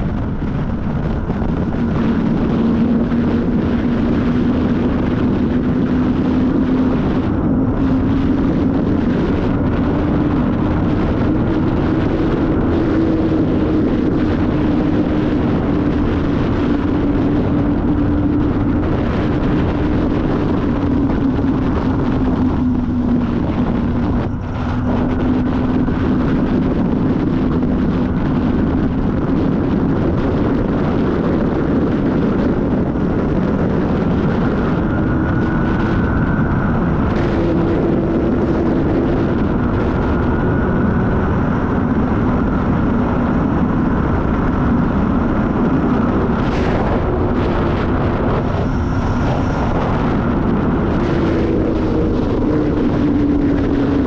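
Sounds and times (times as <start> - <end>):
motorcycle engine: 0.0 - 54.0
wind noise on microphone: 0.0 - 54.0.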